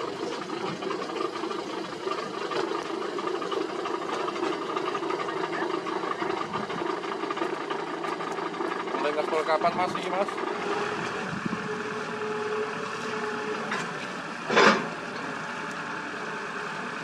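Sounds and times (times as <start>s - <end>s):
diesel engine with mechanical rattle: 0.0s - 17.0s.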